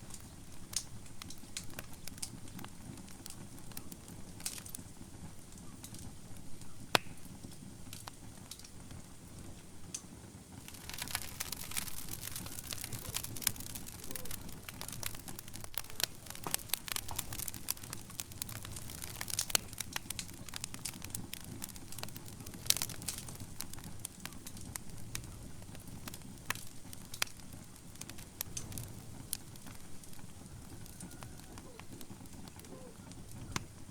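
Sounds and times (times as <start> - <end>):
fire crackling in fireplace: 0.0 - 33.9.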